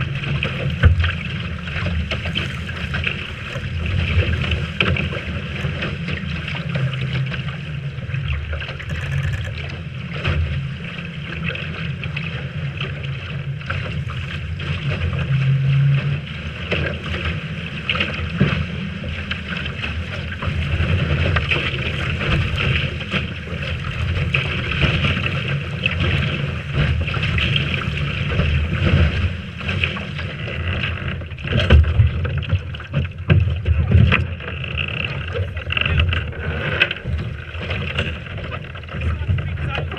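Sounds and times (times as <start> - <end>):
water rushing past hull: 0.0 - 39.9.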